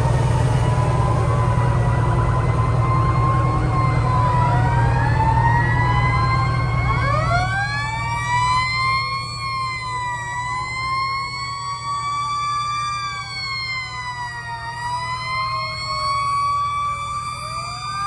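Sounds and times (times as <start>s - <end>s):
fire truck sirens wailing: 0.0s - 18.0s
heavy truck engine rumbling: 0.0s - 18.0s
siren winding up: 0.0s - 18.0s.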